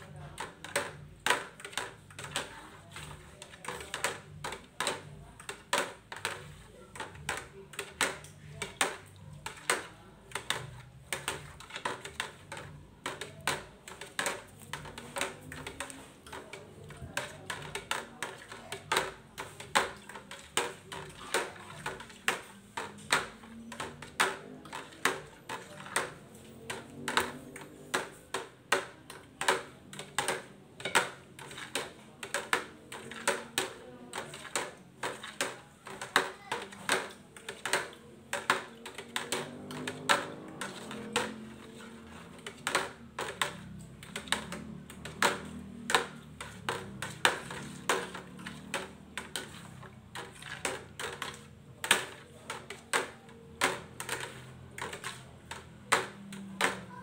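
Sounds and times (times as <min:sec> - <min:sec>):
stirring stick clacking in bucket: 0:00.0 - 0:57.0.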